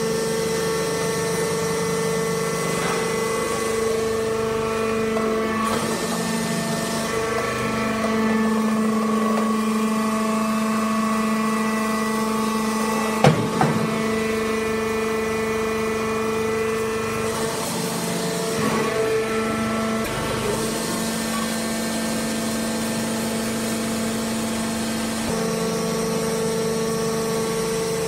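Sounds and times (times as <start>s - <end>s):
electric motor and pump humming: 0.0s - 28.0s.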